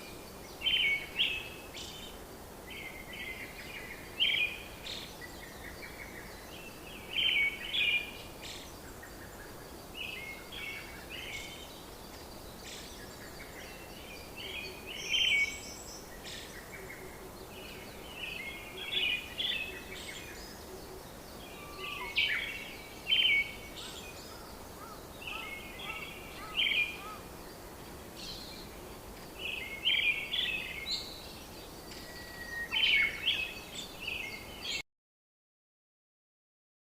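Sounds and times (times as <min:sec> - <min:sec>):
songbird chirping: 0:00.0 - 0:34.8
steady background hiss: 0:00.0 - 0:34.8.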